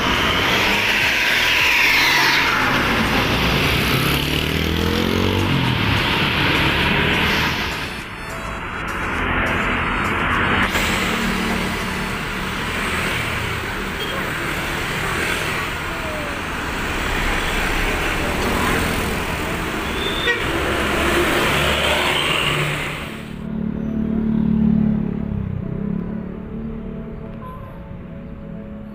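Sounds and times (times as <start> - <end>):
motorcycles passing: 0.0 - 27.2
engine rumble and tyre noise: 0.0 - 28.9.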